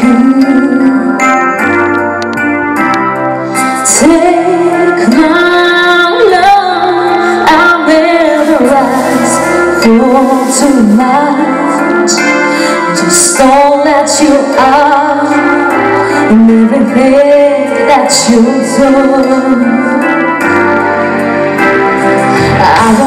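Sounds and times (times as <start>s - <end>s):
woman singing into a microphone: 0.0s - 2.1s, 3.6s - 23.0s
instrumental accompaniment: 0.0s - 23.0s.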